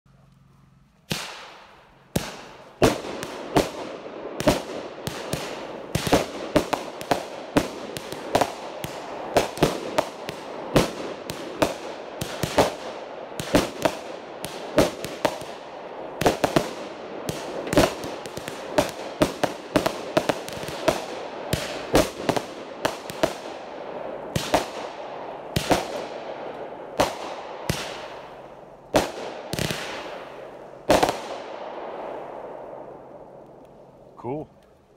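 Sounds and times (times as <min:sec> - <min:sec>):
rapid firework shots: 0:01.1 - 0:32.2
firework bangs: 0:01.1 - 0:32.8.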